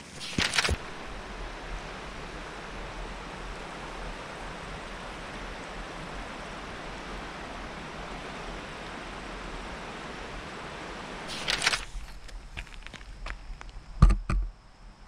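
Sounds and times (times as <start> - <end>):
river water rushing: 0.0 - 12.5.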